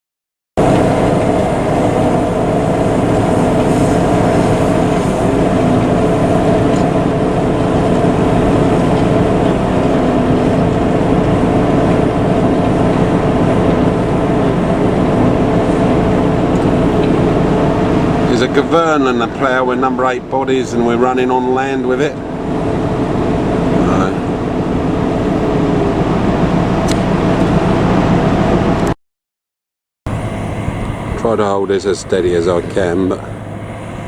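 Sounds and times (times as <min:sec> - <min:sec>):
tractor diesel engine under load: 0:00.6 - 0:29.0, 0:30.1 - 0:34.0.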